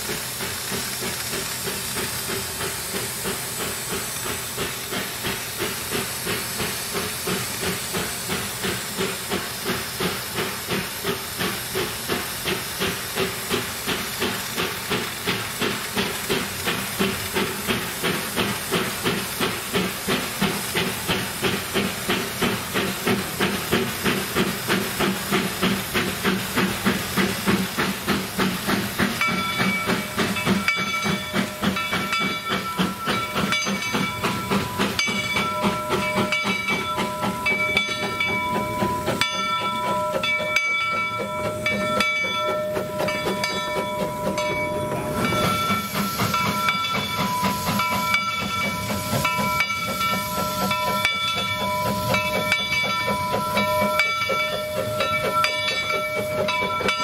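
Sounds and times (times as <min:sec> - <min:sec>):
steam hiss: 0:00.0 - 0:57.0
steam locomotive chuffing: 0:00.0 - 0:57.0
locomotive bell ringing: 0:01.6 - 0:57.0.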